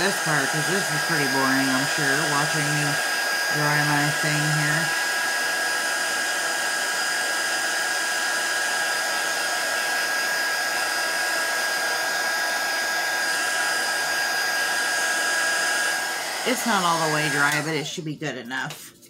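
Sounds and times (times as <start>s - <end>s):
heat tool blowing hot air: 0.0s - 17.9s.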